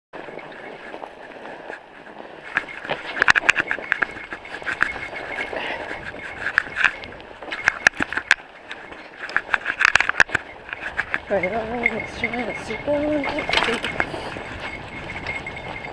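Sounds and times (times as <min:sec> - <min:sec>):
bike clicks and rattles: 0:00.2 - 0:15.9
bike tyres crunching through snow: 0:00.2 - 0:15.9.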